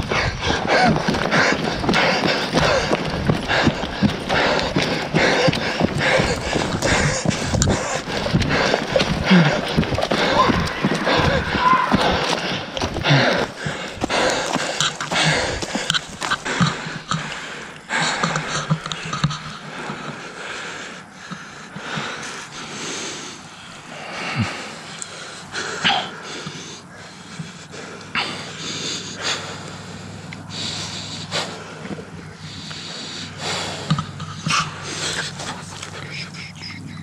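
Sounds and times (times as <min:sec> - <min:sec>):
person breathing hard: 0:00.0 - 0:37.0.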